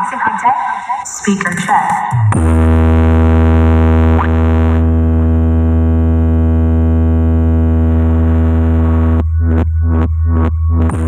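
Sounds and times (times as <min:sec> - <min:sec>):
deep synthesized bass drone: 0:01.9 - 0:11.0.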